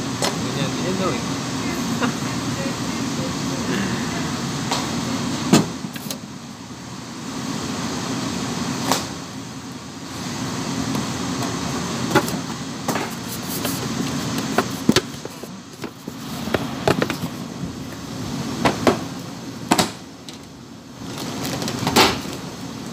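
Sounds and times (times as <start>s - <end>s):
low kitchen hum: 0.0s - 22.9s.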